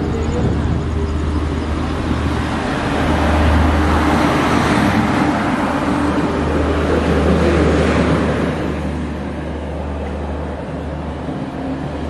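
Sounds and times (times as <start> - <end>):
moving train running noise: 0.0 - 12.0
train passing close: 0.0 - 12.0.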